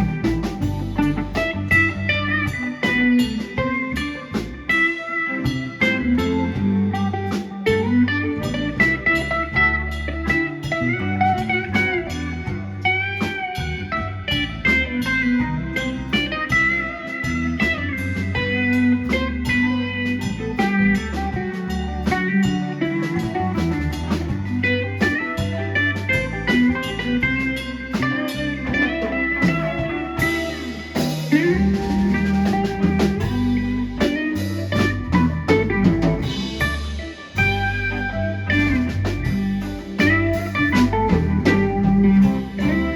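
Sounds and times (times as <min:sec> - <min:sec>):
blues rock band playing: 0:00.0 - 0:42.9
guitar lead with bending notes: 0:00.0 - 0:42.9.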